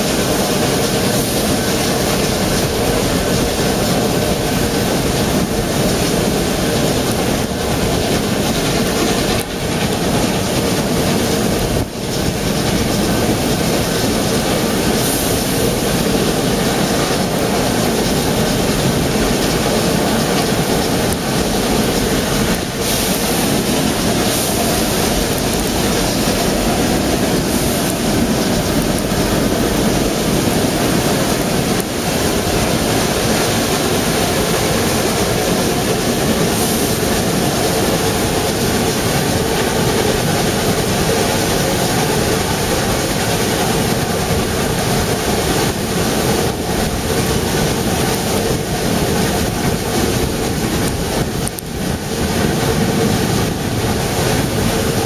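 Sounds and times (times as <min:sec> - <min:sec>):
steam train running: 0:00.0 - 0:55.0.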